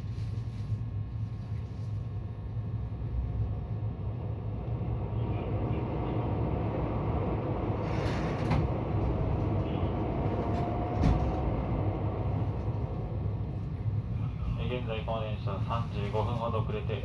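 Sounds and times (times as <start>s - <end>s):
train wheels rumbling: 2.8s - 17.0s.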